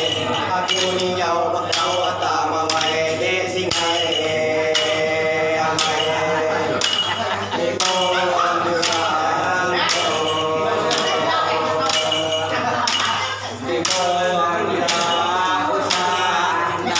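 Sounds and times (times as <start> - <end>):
men chanting in unison: 0.0 - 16.9.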